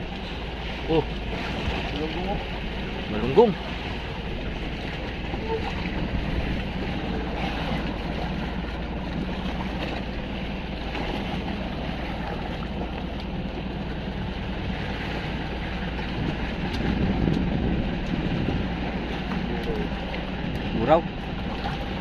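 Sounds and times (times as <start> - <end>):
wind and sea noise: 0.0 - 22.0
wind buffeting microphone: 0.0 - 22.0.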